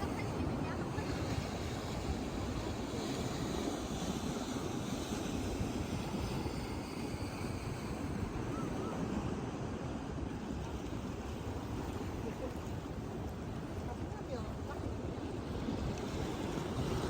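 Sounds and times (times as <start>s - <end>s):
surf washing: 0.0s - 17.0s.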